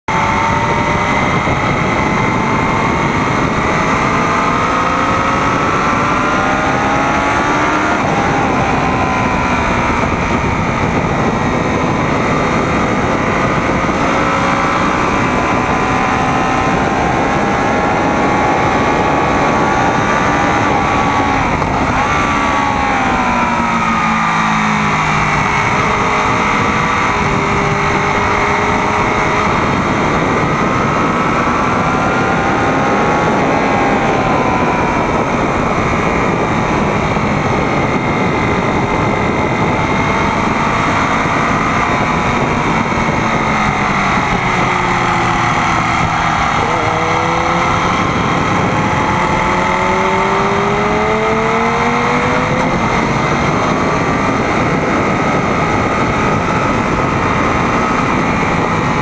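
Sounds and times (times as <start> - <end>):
motorcycle engine revving high: 0.0 - 59.0
wind rush: 0.1 - 59.0.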